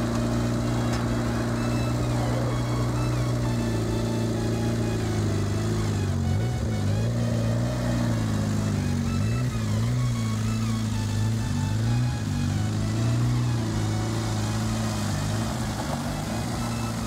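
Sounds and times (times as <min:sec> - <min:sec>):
car engine running at low speed: 0:00.0 - 0:17.0.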